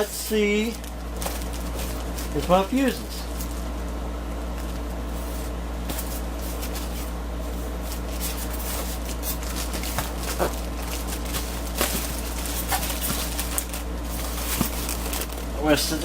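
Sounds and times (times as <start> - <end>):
packaging rustling: 0.0 - 3.7, 4.5 - 16.0
low electrical hum: 0.0 - 16.0.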